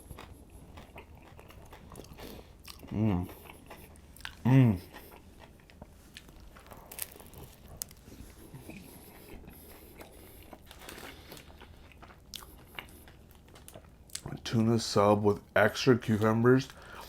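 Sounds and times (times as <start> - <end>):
biting and chewing sandwich: 0.0 - 14.5.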